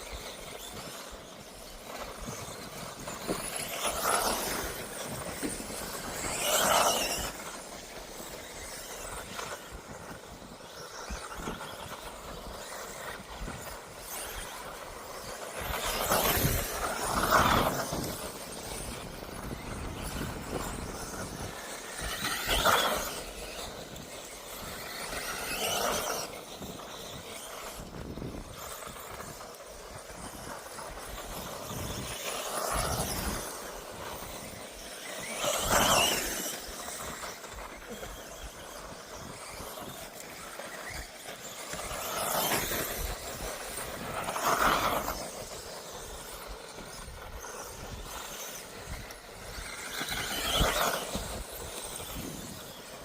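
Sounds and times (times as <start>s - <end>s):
electric toy cars whining past: 0.0s - 53.0s.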